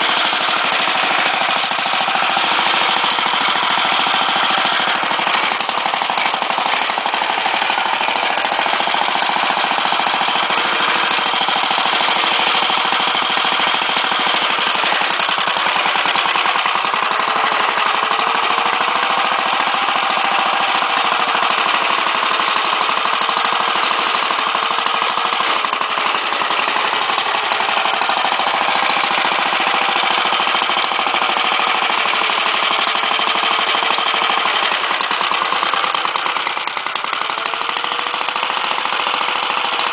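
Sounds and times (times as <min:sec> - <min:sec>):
fast rattling clatter: 0:00.0 - 0:39.9
mower engine running: 0:00.0 - 0:39.9.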